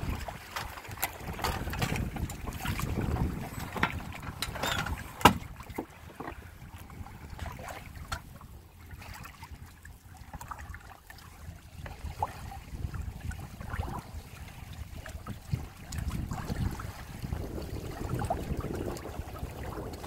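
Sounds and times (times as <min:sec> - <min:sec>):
water lapping against hulls: 0:00.0 - 0:20.0.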